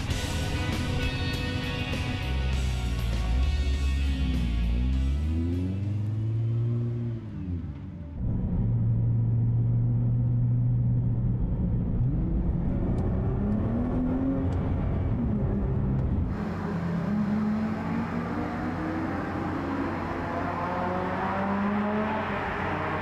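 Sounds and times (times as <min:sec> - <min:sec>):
car engines accelerating: 0:00.0 - 0:23.0.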